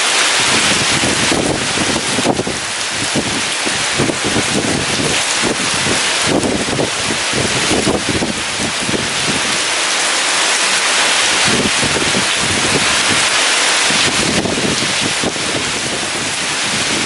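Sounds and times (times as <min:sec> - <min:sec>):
heavy rain pouring: 0:00.0 - 0:17.0
strong wind gusting: 0:00.0 - 0:17.0.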